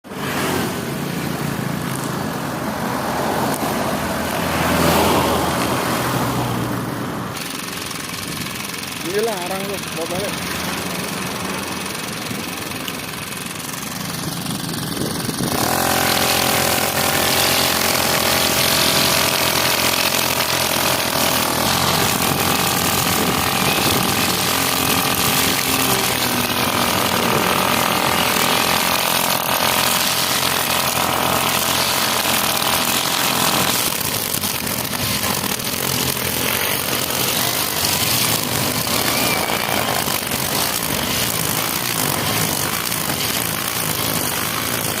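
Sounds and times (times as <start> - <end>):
string trimmer engine running: 0.0 - 45.0.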